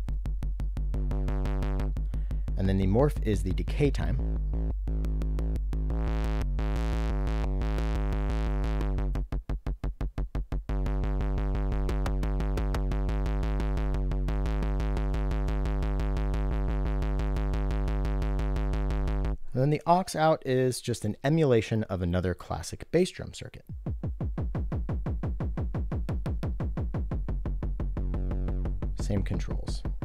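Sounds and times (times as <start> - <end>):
short synth kicks: 0.0 - 19.6, 23.7 - 30.0
synth bass drum drone: 0.0 - 19.6, 23.7 - 30.0.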